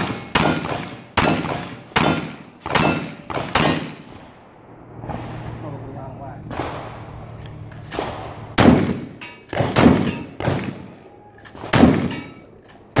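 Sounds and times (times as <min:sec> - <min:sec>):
sharp ringing bangs: 0:00.0 - 0:12.4.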